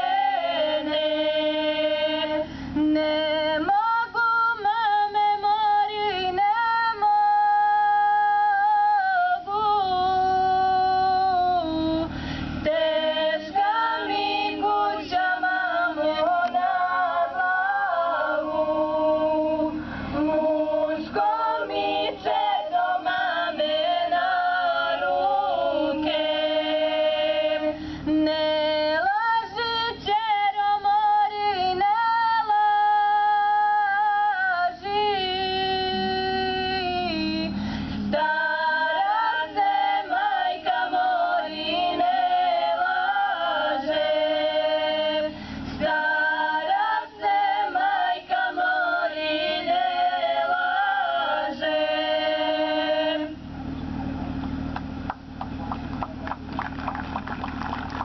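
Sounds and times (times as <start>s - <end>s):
women singing unaccompanied: 0.0s - 53.5s.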